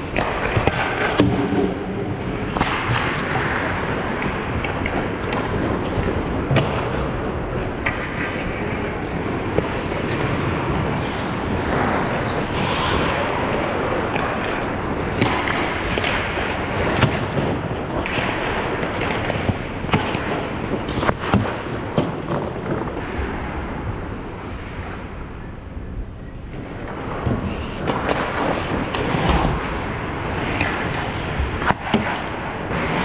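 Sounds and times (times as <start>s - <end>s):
hockey sticks and puck clacking: 0.0s - 23.6s, 26.5s - 33.0s
skates scraping ice: 0.0s - 25.2s, 26.5s - 33.0s.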